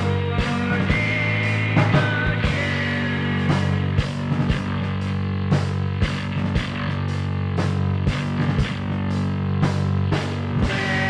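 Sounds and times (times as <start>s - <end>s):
rock band playing instrumental: 0.0s - 11.0s.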